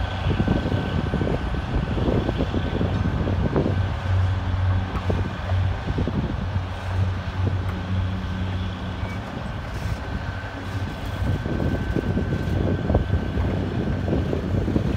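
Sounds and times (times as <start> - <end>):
diesel locomotive engine humming: 0.0 - 14.9.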